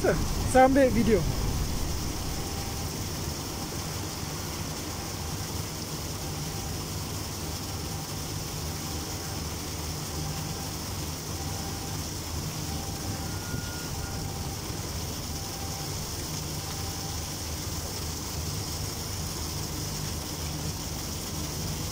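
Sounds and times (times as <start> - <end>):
low engine drone: 0.0 - 21.9
propeller wash churning water: 0.0 - 21.9.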